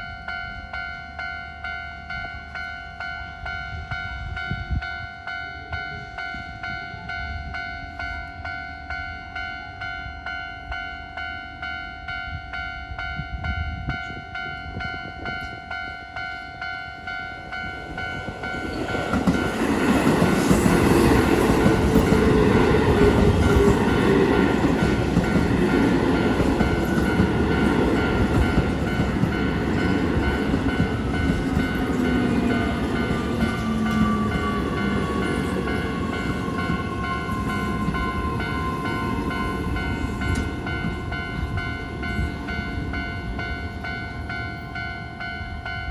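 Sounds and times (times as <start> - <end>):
electric train passing: 0.0 - 45.9
level crossing bell clanging: 0.0 - 45.9.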